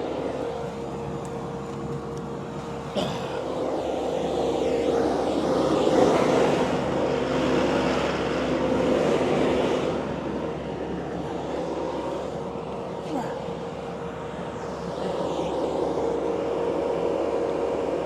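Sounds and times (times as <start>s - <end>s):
heavy equipment engine running: 0.0s - 18.0s.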